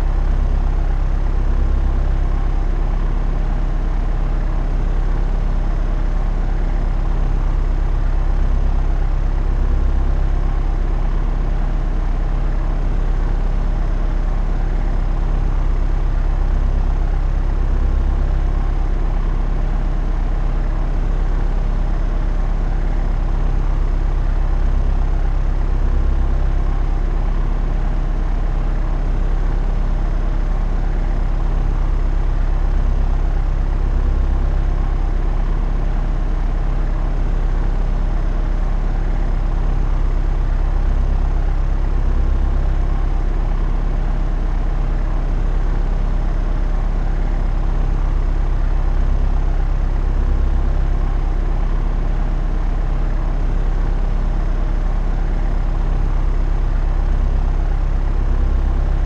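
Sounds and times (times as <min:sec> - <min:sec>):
propeller aircraft cabin drone: 0:00.0 - 0:59.0.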